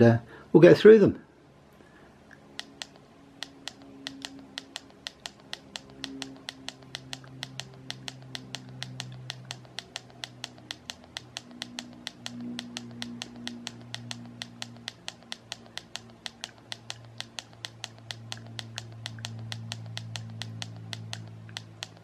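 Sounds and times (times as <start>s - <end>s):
radio keypad clicking: 2.6s - 22.0s.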